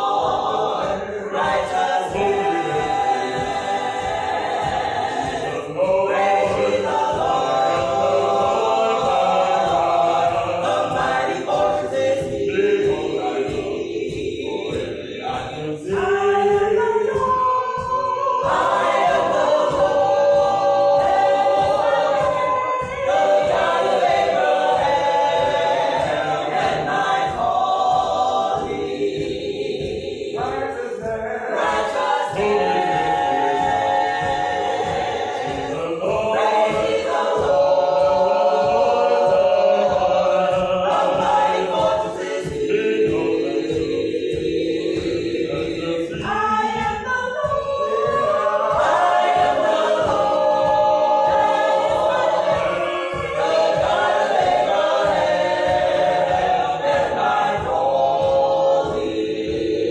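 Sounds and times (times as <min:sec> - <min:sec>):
gospel choir singing a cappella: 0:00.0 - 0:59.9.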